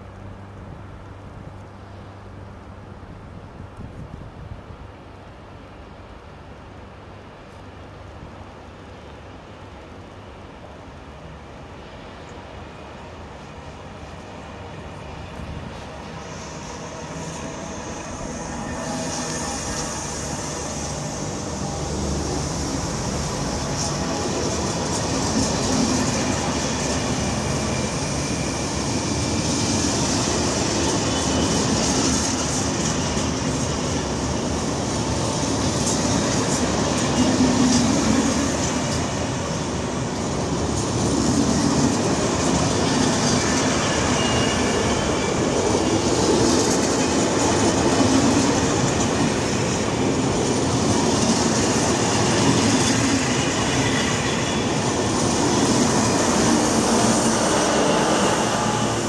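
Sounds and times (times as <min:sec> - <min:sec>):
train wheels rumbling on rail: 0:06.6 - 0:59.0.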